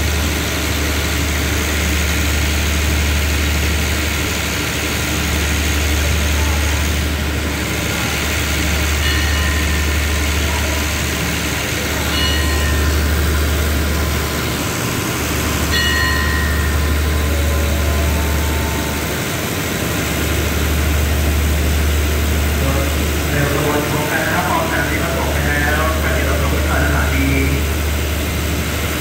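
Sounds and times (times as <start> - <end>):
train engines idling: 0.0 - 29.0.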